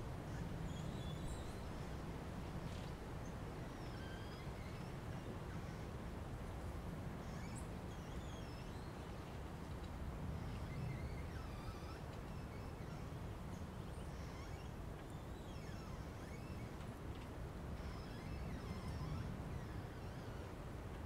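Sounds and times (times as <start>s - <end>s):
steady wind: 0.0s - 21.0s.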